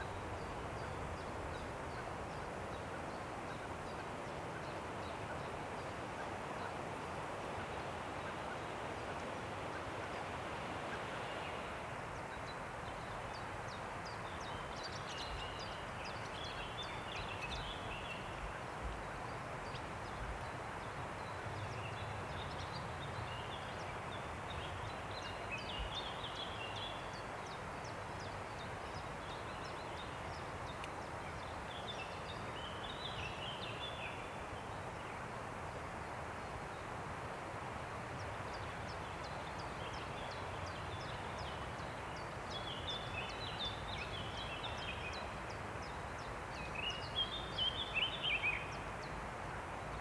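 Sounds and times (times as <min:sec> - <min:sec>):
wind rushing through trees: 0:00.0 - 0:50.0.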